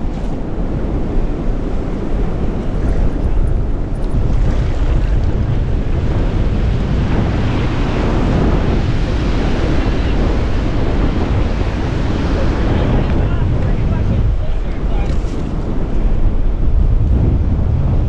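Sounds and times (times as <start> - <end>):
breaking surf: 0.0 - 18.0
wind buffeting microphone: 0.0 - 18.0.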